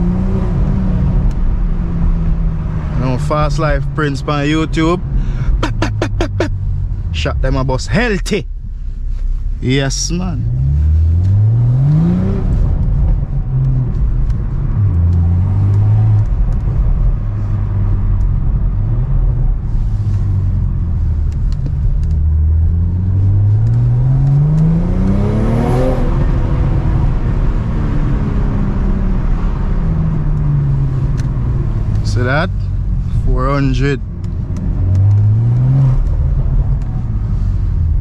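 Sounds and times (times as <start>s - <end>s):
car engine accelerating hard: 0.0s - 7.8s, 9.6s - 38.0s.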